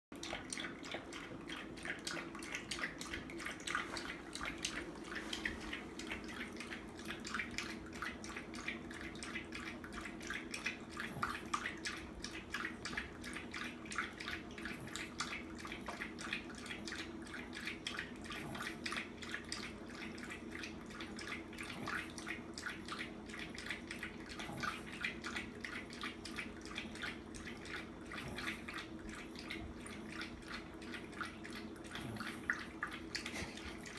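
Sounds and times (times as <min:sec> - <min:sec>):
dog lapping water from metal bowl: 0:00.1 - 0:33.9.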